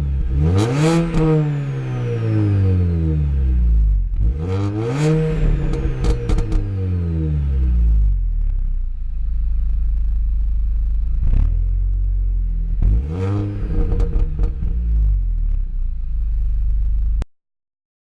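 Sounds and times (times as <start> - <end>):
car engine idling and revving: 0.0 - 17.2.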